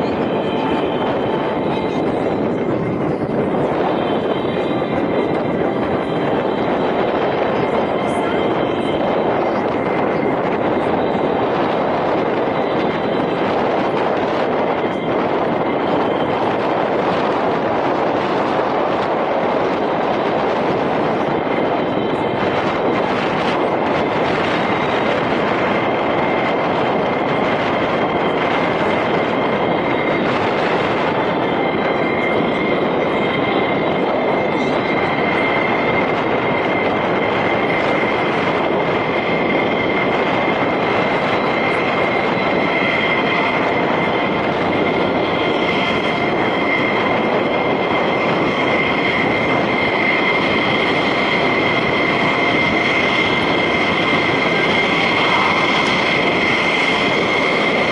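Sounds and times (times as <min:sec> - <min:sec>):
high-pitched engine whine: 0:00.0 - 0:57.9
jet engine rumble: 0:00.0 - 0:57.9.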